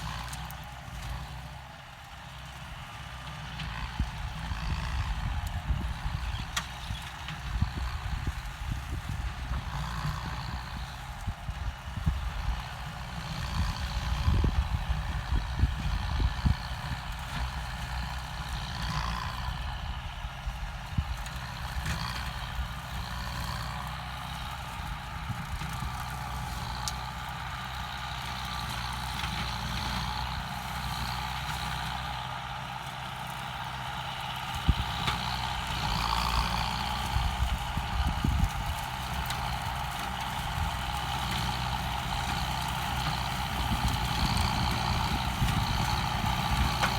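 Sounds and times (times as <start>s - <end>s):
rotary tiller shredding plants: 0.0s - 46.9s
tractor diesel engine running: 0.0s - 46.9s.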